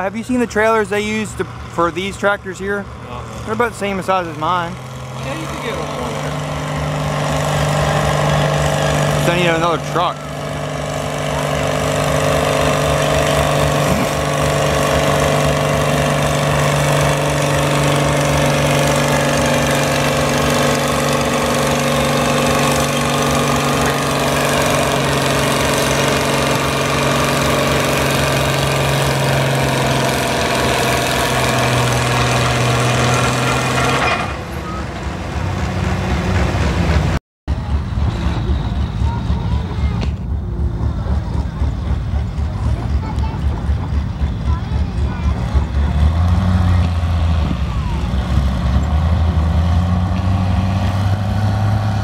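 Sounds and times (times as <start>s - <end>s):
idling tractor engine: 0.0s - 35.4s, 36.3s - 49.6s
tractor engine under heavy load: 0.0s - 52.0s.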